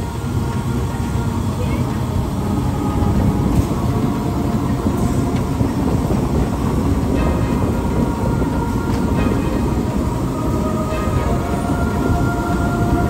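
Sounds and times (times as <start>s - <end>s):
faint steady tones: 0.0s - 13.0s
loud low rumble: 0.0s - 13.0s.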